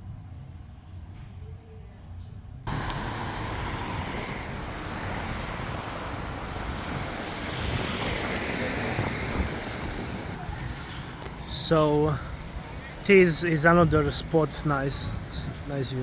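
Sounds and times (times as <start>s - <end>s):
outdoor rushing noise: 2.7s - 16.0s.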